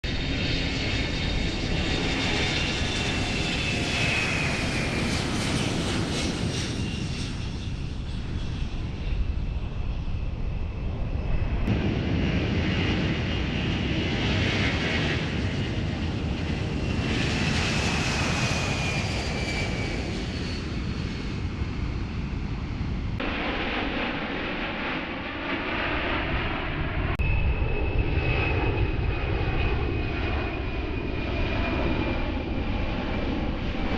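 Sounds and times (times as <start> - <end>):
jet engines flying past: 0.0 - 33.9.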